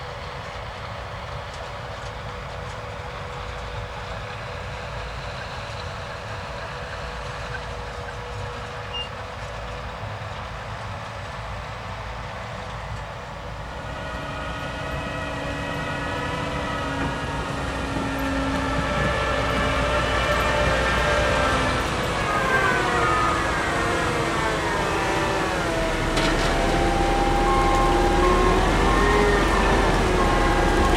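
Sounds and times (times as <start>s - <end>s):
harvester engine drone: 0.0s - 30.9s
whining drivetrain tones: 1.5s - 30.9s.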